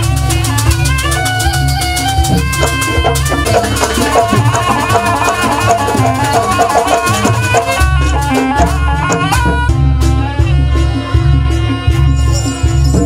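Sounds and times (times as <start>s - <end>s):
fast drum strokes: 0.0s - 13.0s
held melody line: 0.0s - 13.0s
rattling percussion: 0.0s - 13.0s.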